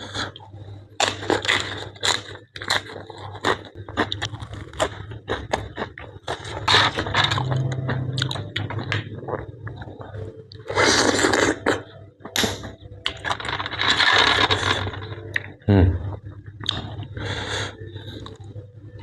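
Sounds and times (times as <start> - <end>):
chewing: 0.0 - 15.5.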